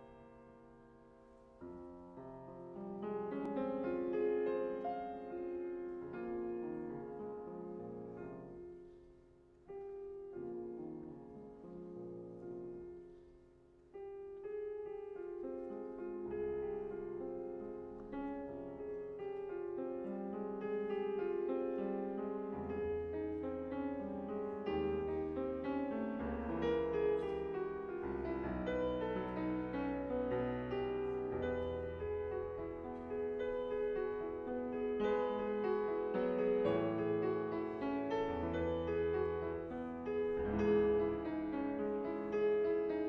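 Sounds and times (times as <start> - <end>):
slow classical piano: 0.0 - 43.0.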